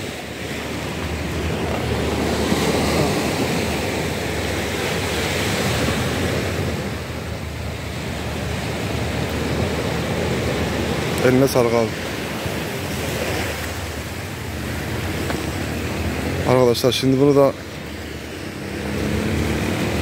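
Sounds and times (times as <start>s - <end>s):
sea waves washing ashore: 0.0s - 20.0s.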